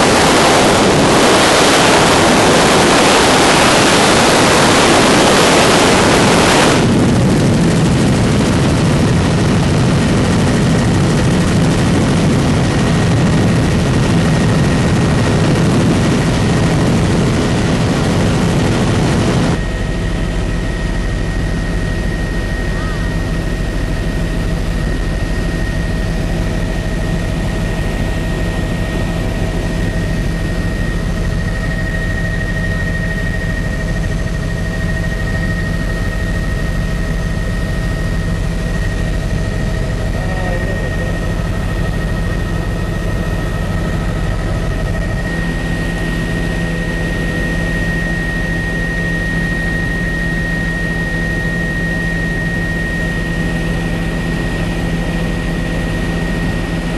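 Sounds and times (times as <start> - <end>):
helicopter engine and rotor drone: 0.0 - 56.9
high whine: 0.0 - 56.9.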